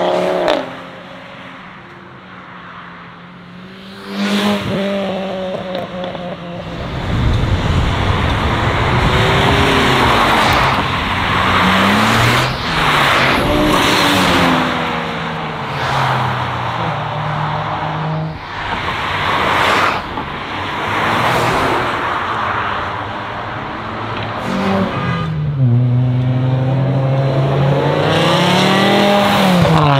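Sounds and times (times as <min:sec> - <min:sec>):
cars accelerating hard: 0:00.0 - 0:01.1, 0:03.4 - 0:29.9.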